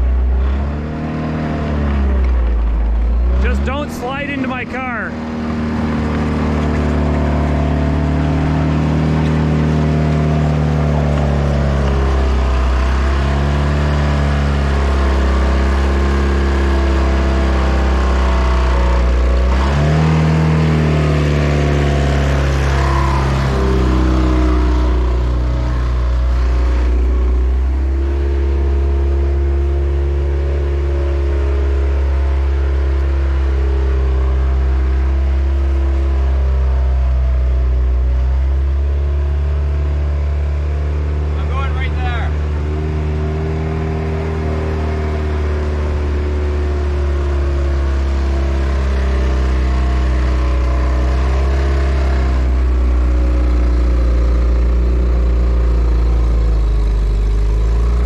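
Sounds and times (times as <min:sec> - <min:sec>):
diesel engine running near full throttle: 0:00.0 - 0:58.0.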